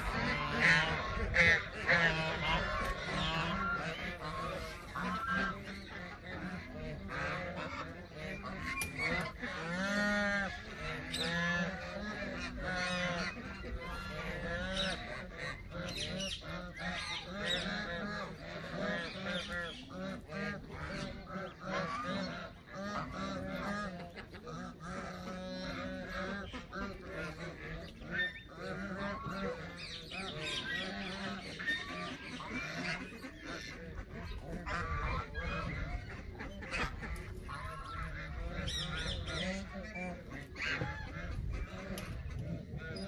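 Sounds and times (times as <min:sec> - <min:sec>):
geese honking: 0:00.0 - 0:43.0.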